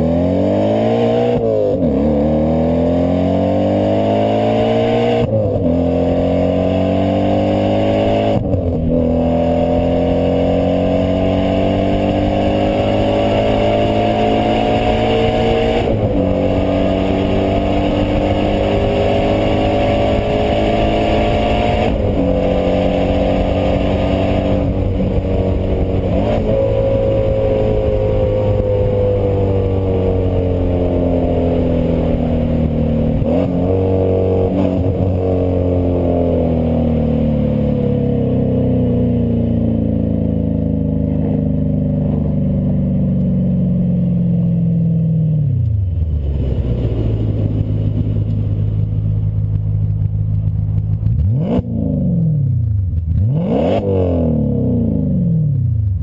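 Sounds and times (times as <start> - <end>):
car engine revving through gears: 0.0 - 56.0.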